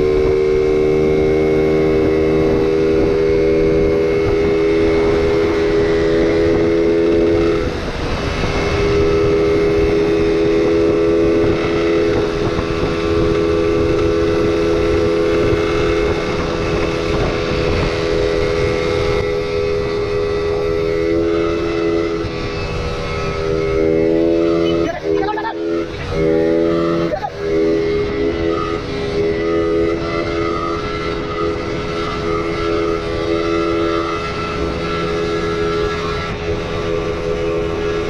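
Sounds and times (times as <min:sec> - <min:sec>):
wind noise on microphone: 0:00.0 - 0:25.2, 0:25.8 - 0:38.0
scooter engine droning: 0:00.0 - 0:38.0.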